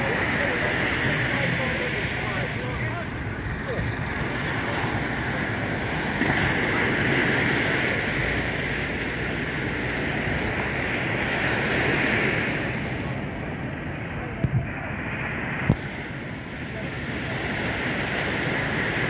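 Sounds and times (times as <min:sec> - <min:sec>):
ocean surf breaking: 0:00.0 - 0:19.0
wind on microphone: 0:00.0 - 0:19.0.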